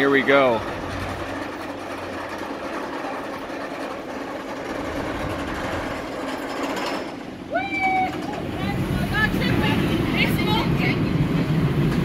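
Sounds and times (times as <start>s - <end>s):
roller coaster chain lift clicking: 0.0s - 12.0s.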